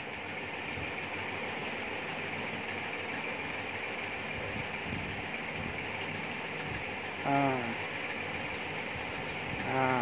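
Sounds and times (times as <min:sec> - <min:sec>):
mechanical hum and hiss: 0:00.0 - 0:10.0.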